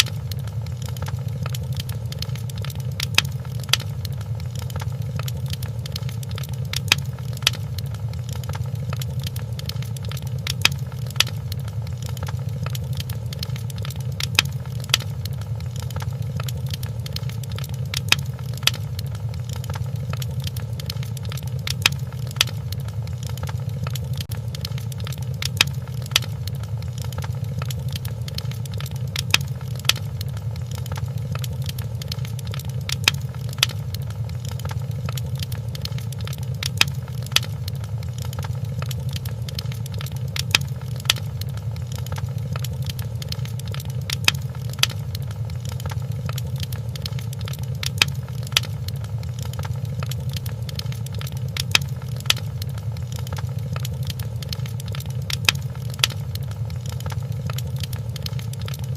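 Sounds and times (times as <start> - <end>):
loud fire pops: 0.0 - 58.9
steady low rumble: 0.0 - 58.9
wood fire crackling: 0.0 - 58.9.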